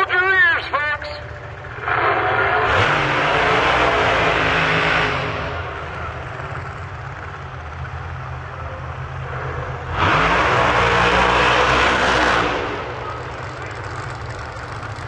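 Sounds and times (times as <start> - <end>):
race car engines at full throttle: 0.0 - 15.0.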